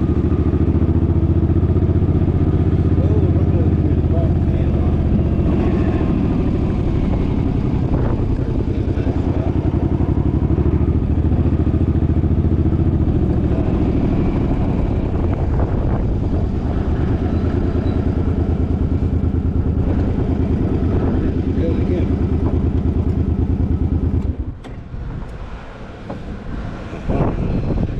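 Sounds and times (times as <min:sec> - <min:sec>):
engine running: 0:00.0 - 0:27.9
wind buffeting microphone: 0:00.0 - 0:27.9.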